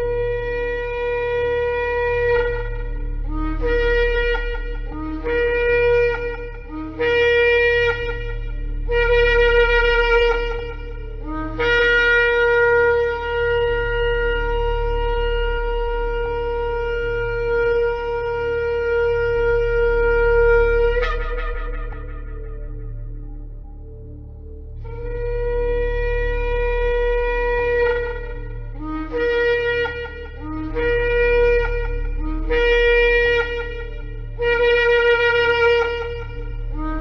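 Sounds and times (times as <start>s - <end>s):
shofar blasts: 0.0s - 24.0s, 24.8s - 37.0s
steady low hum: 0.0s - 37.0s.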